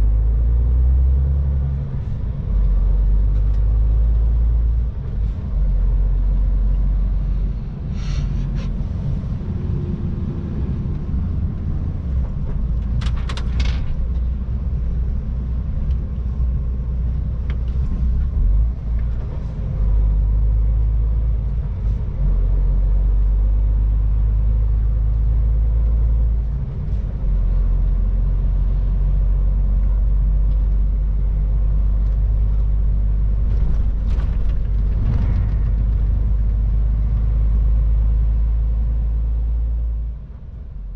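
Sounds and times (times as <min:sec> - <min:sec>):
truck diesel engine rumble: 0:00.0 - 0:40.9.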